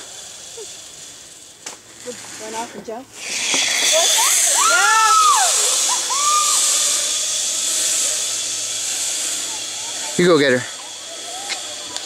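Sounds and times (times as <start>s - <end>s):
wavering tones: 0.0s - 12.0s
zip line trolley hissing on cable: 0.0s - 12.0s.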